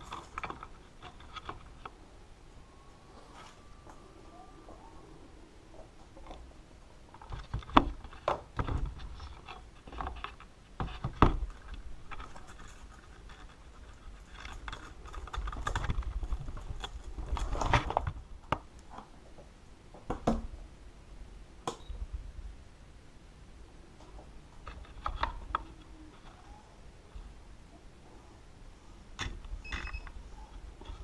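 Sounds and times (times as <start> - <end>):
rustling: 0.0 - 19.5, 23.9 - 31.0.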